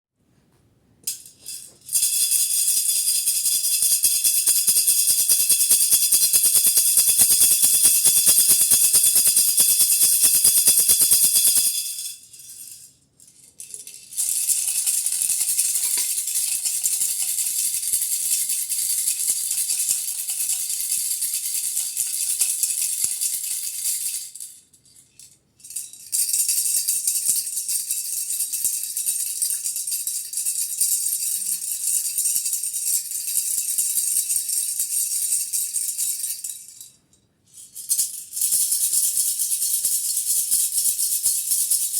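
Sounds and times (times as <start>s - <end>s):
hand rattle shaken: 1.0s - 41.9s.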